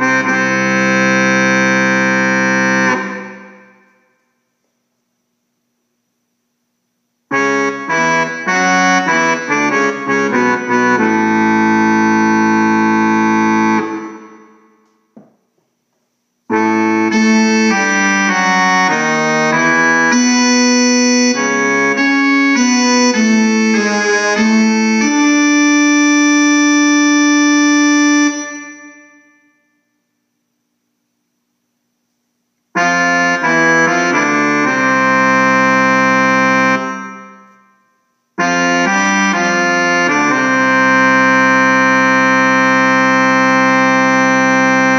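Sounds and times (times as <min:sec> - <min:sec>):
electronic keyboard melody: 0:00.0 - 0:04.2, 0:07.3 - 0:15.1, 0:16.5 - 0:29.8, 0:32.8 - 0:44.9.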